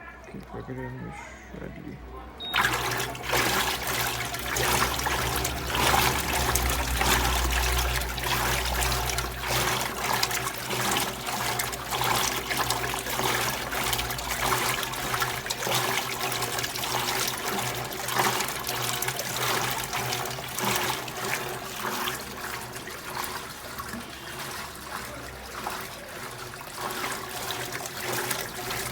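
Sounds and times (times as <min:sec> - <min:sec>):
water rushing into washing machine: 0:02.4 - 0:28.9.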